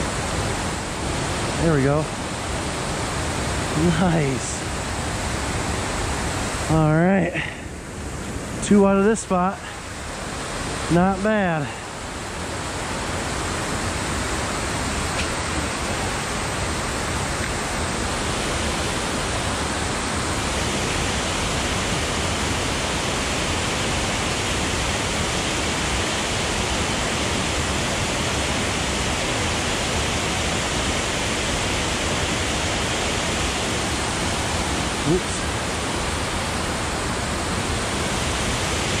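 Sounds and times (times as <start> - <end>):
water rushing over spillway: 0.0 - 39.0.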